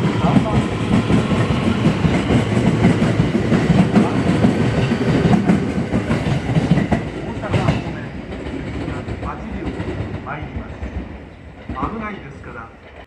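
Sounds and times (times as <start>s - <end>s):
train wheels clattering over rail joints: 0.0s - 12.0s
electric train rumble: 0.0s - 13.0s.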